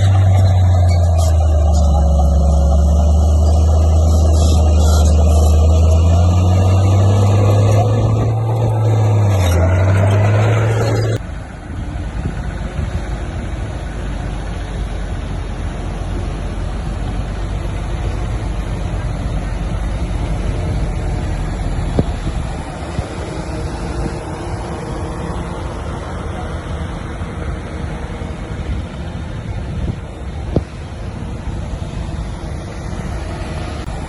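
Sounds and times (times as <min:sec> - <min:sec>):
engine rumble: 0:00.0 - 0:34.0
heavy diesel engine working: 0:00.0 - 0:34.0.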